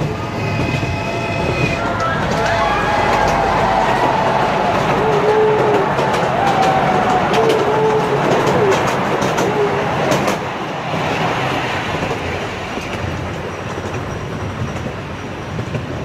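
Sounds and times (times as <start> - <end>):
small train rumbling on track: 0.0 - 16.0
wheels clicking over rail joints: 0.0 - 16.0.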